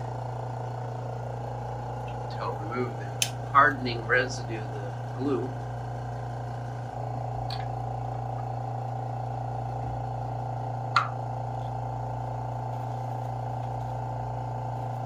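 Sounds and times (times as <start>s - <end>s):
vacuum pump humming: 0.0s - 15.0s.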